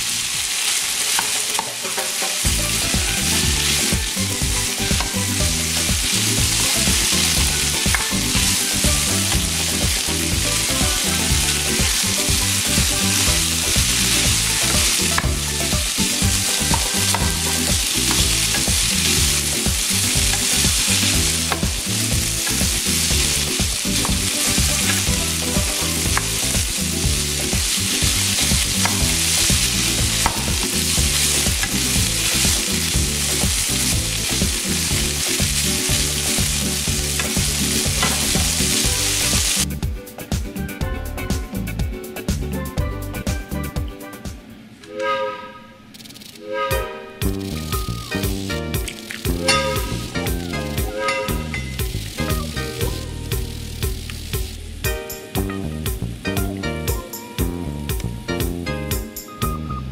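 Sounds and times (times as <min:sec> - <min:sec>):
chicken sizzling in frying pan: 0:00.0 - 0:39.9, 0:47.2 - 0:57.1.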